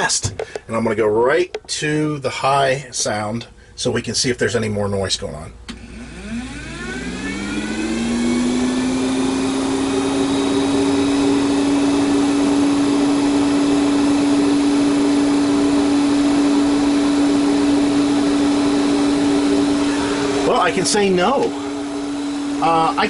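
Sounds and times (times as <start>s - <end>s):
roof vent fan whirring: 0.0s - 23.0s.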